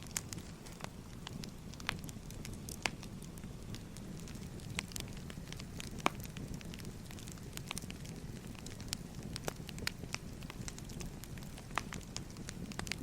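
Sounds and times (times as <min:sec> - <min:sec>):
low rumble of burning logs: 0:00.0 - 0:13.0
wood fire crackling: 0:00.0 - 0:13.0.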